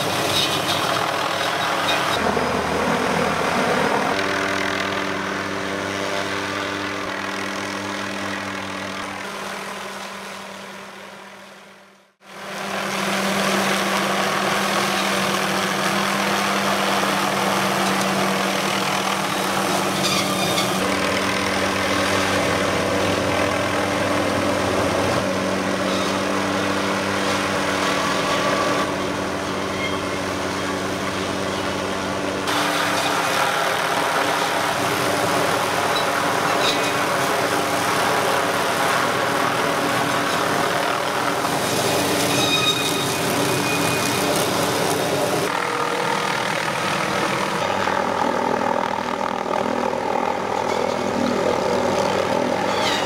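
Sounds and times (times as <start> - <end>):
helicopter hovering: 0.0 - 53.0
tree saw running: 0.0 - 53.0.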